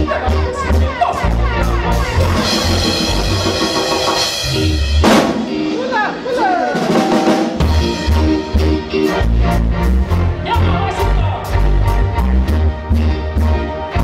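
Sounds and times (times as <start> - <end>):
bass guitar: 0.0 - 14.0
drum kit: 0.0 - 14.0
electric guitar gliding notes: 0.0 - 14.0.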